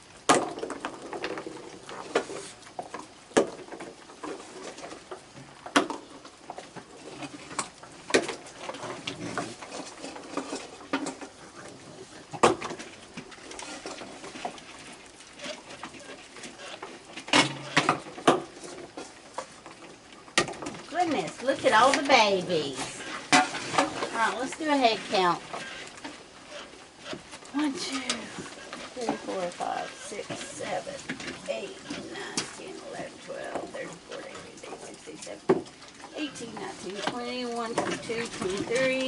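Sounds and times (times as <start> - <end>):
soft animal noises: 0.9 - 39.0.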